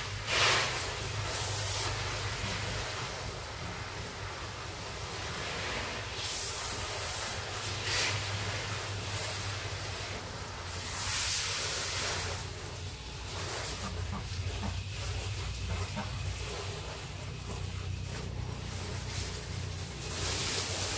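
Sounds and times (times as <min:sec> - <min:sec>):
hissing spray bursts: 0:00.0 - 0:20.9
steady low hum: 0:00.0 - 0:20.9.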